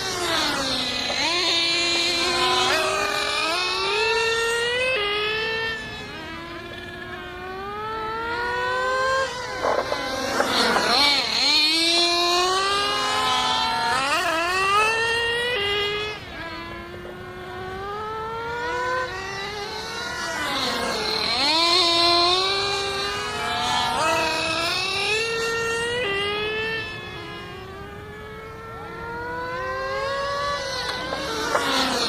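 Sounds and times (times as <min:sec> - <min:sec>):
model car engines revving: 0:00.0 - 0:32.0.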